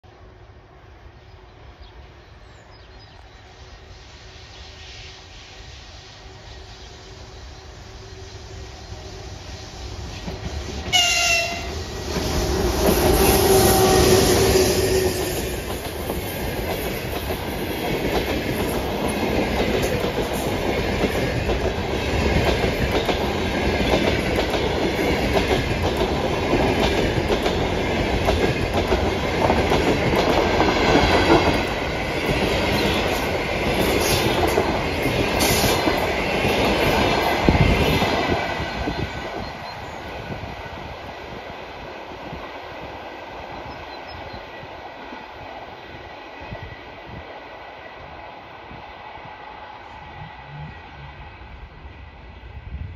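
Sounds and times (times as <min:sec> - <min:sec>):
train passing at speed: 0:00.0 - 0:52.9.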